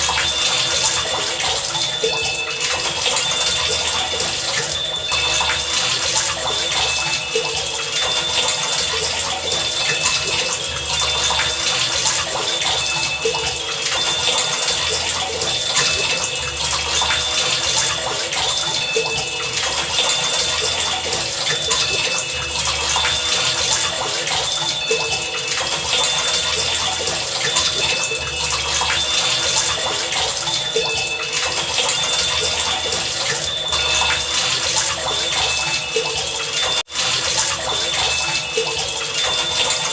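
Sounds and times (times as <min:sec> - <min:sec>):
heavy rain pouring: 0:00.0 - 0:39.9
thin high tones: 0:00.0 - 0:39.9.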